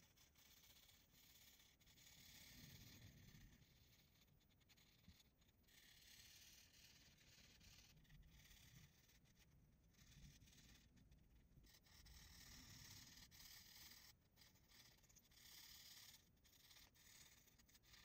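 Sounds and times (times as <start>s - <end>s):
marker scratching on paper: 0.0s - 18.0s.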